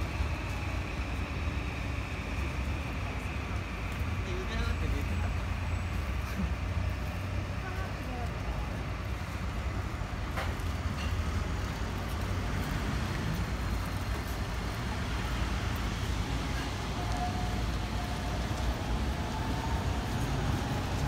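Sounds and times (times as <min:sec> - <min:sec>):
street traffic rumble: 0:00.0 - 0:21.0
tram pulling away: 0:00.0 - 0:21.0.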